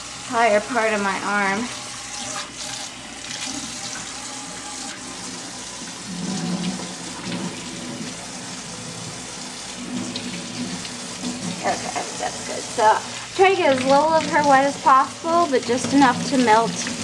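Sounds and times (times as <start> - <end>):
faucet running into steel sink: 0.0 - 17.0.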